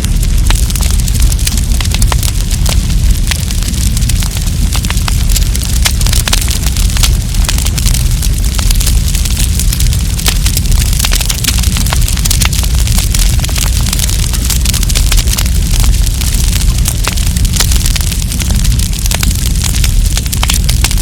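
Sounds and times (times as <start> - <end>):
campfire crackling and popping: 0.0 - 21.0
low rumble: 0.0 - 21.0.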